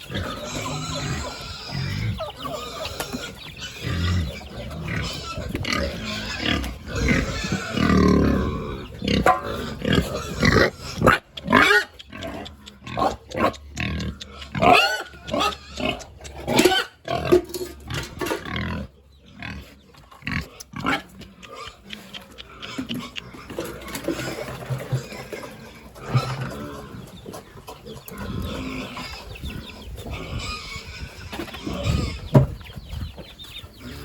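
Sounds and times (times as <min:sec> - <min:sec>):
pigs calling: 0:00.0 - 0:34.0.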